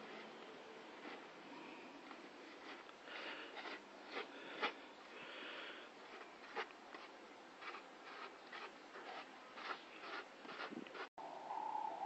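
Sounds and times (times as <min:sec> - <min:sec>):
rubbing strokes against a surface: 0:00.0 - 0:04.8, 0:06.0 - 0:11.1.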